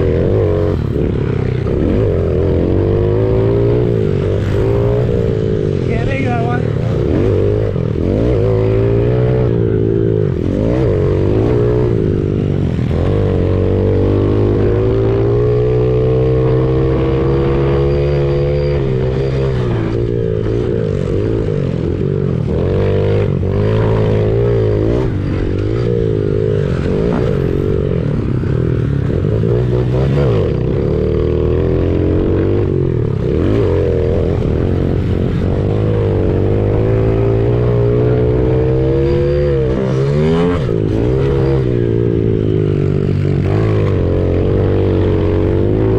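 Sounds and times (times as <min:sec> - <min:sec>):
small motorcycle engine revving: 0:00.0 - 0:45.9.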